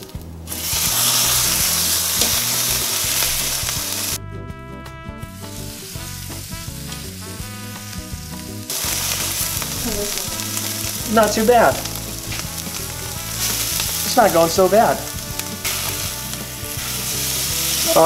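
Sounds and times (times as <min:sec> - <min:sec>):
steak sizzling: 0:00.0 - 0:04.2, 0:04.8 - 0:18.0
background music: 0:00.0 - 0:18.0.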